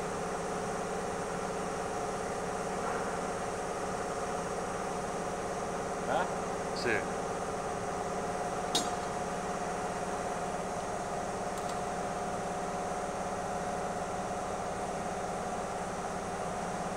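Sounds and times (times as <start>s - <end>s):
steady mechanical hum: 0.0s - 16.9s.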